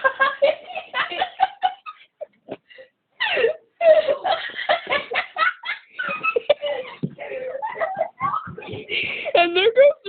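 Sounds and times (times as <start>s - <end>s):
kids laughing: 0.0s - 2.3s, 3.2s - 9.9s.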